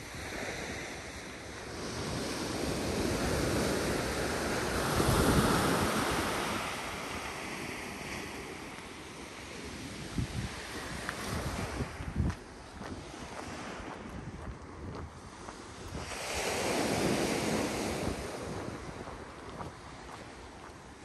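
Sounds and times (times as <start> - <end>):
wind buffeting microphone: 1.7 - 8.6, 9.6 - 21.0.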